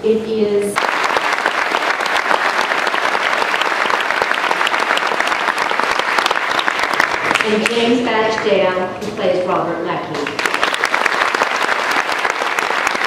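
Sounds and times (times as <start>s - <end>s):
audience applauding: 0.8s - 8.5s, 10.2s - 13.0s.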